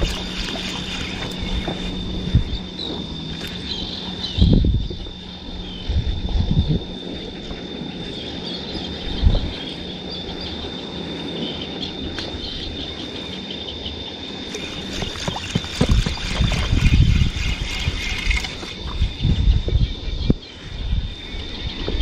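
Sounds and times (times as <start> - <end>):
water lapping around boat: 0.0 - 22.0
wind rumbling on microphone: 0.0 - 22.0.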